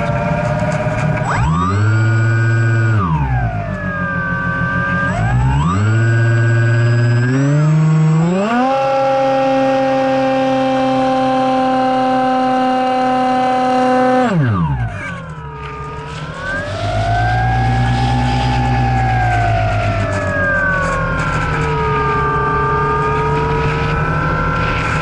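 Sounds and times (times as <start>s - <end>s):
electric motor and propeller whine: 0.0s - 25.0s.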